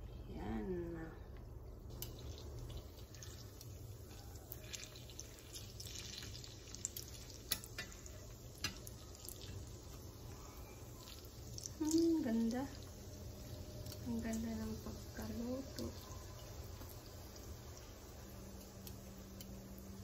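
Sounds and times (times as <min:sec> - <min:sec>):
dough deep-frying in oil: 0:00.0 - 0:20.0.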